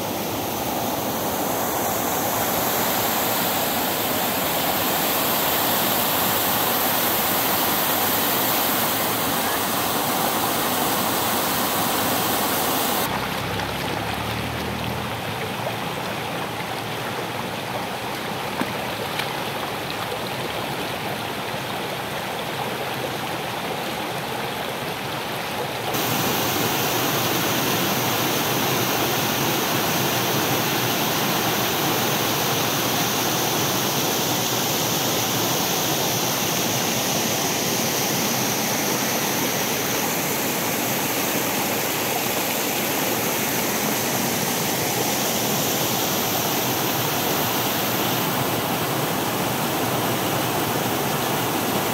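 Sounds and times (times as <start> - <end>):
small waterfall rushing: 0.0 - 51.9
stream rippling over pebbles: 0.0 - 51.9.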